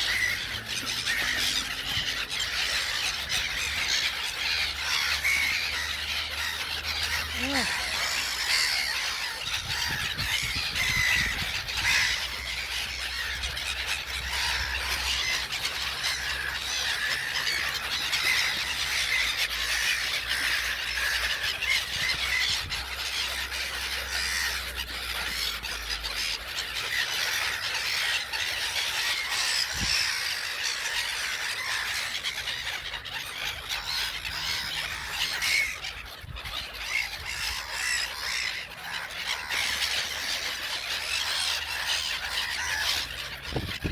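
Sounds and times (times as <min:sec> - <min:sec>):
gulls calling: 0:00.0 - 0:43.9.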